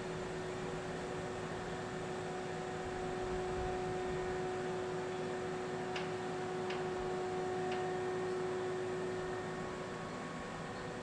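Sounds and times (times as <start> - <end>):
crane mechanical hum and whine: 0.0 - 11.0.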